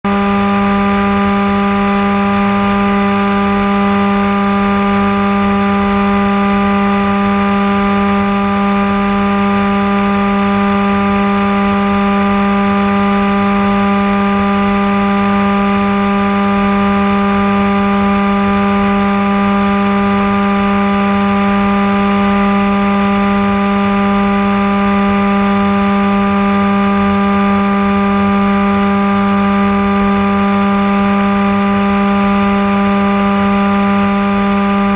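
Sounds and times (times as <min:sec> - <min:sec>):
propeller motor drone: 0:00.0 - 0:34.9.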